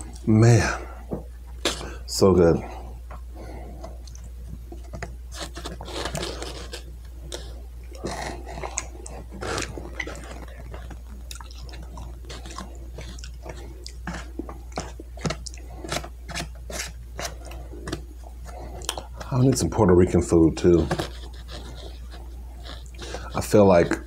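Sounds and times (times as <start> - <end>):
low electrical hum: 0.0 - 24.0
wet chewing and mouth clicks: 3.1 - 19.6, 20.8 - 24.0.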